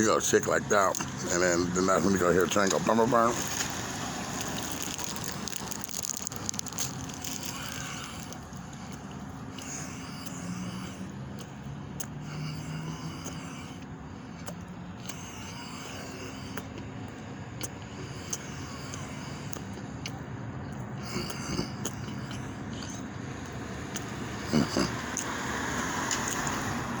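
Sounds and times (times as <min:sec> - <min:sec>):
distant traffic: 0:00.0 - 0:27.0.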